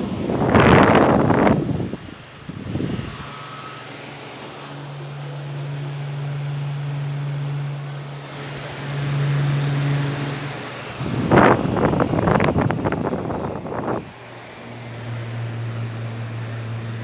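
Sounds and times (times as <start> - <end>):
air buffeting microphone: 0.0 - 17.0
electric fan running: 0.0 - 17.0.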